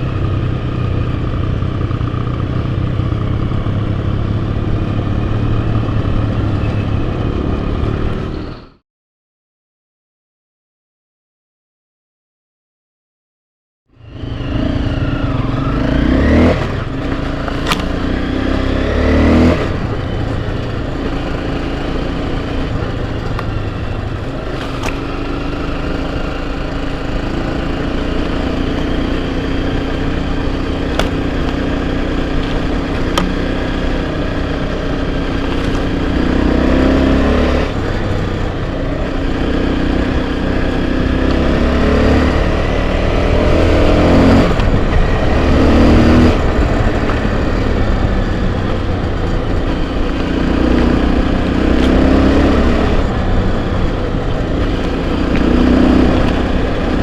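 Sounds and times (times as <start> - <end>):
motorcycle engine revving: 0.0 - 8.8, 14.0 - 57.0.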